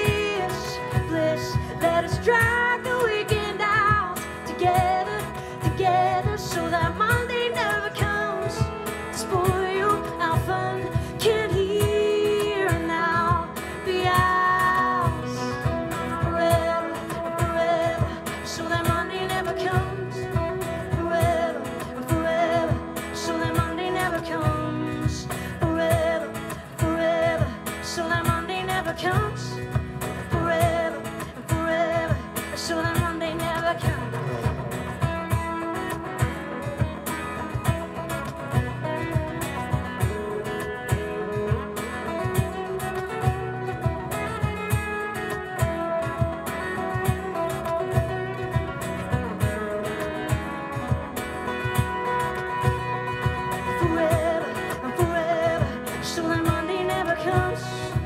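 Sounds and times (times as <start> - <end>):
strummed acoustic guitar: 0.0 - 58.0
woman singing: 0.0 - 58.0.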